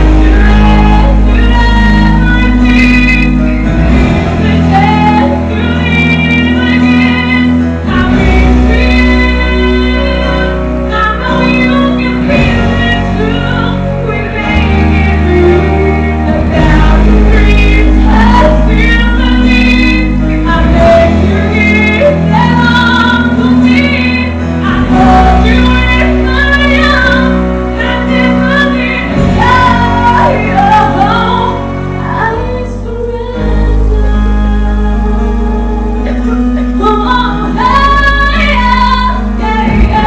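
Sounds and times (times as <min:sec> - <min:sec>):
instrumental accompaniment with bass: 0:00.0 - 0:40.0
woman singing: 0:00.0 - 0:40.0.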